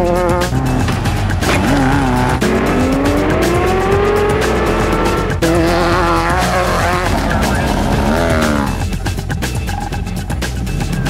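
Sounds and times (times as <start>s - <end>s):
background music: 0.0s - 11.0s
truck engines revving: 0.0s - 11.0s.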